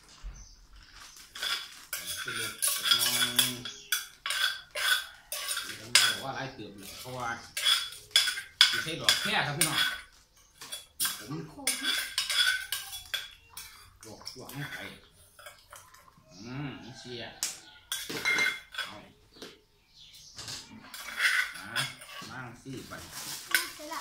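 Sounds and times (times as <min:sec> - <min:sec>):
metal spoon scraping mortar: 0:01.3 - 0:15.9, 0:17.6 - 0:19.1, 0:20.2 - 0:24.0.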